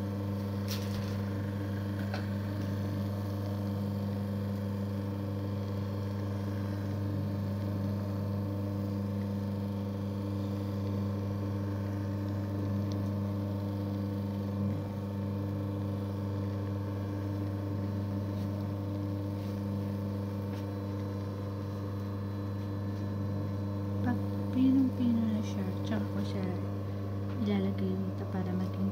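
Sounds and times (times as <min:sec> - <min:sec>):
motor hum: 0:00.0 - 0:28.9.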